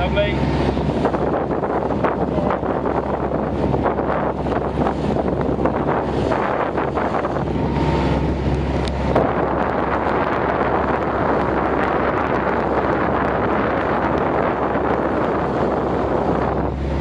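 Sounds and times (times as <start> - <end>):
boat engine drone: 0.0 - 17.0
rush of boat wake: 0.0 - 17.0
wind buffeting microphone: 0.0 - 17.0.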